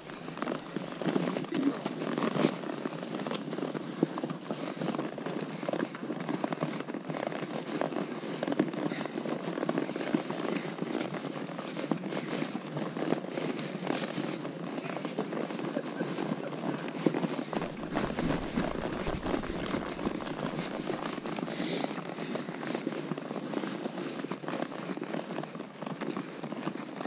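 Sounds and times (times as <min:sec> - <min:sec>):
horse hooves on rocky trail: 0:00.0 - 0:27.0.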